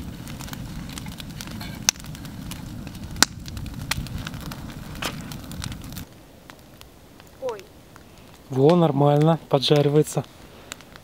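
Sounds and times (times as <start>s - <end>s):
burning wood popping: 0.0s - 11.0s
campfire crackling: 0.0s - 11.0s.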